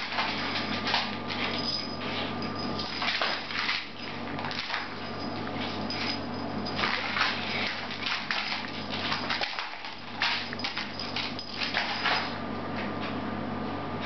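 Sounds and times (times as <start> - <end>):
cat claws skittering on tiles: 0.0 - 12.4
steady hum: 0.0 - 14.0.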